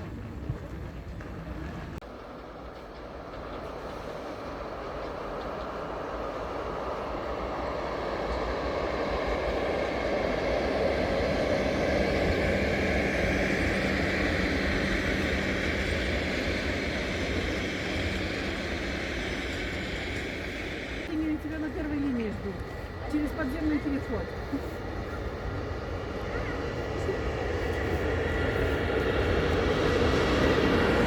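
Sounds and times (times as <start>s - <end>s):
passenger train rumbling on track: 0.0s - 31.0s.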